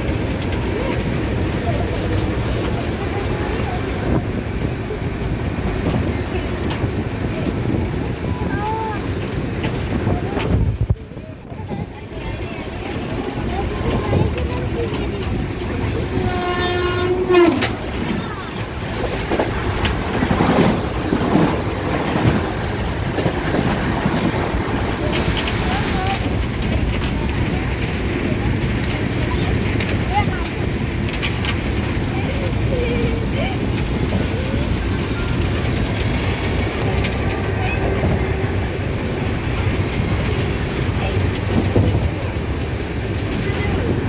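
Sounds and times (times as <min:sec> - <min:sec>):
passenger train running noise: 0:00.0 - 0:44.0.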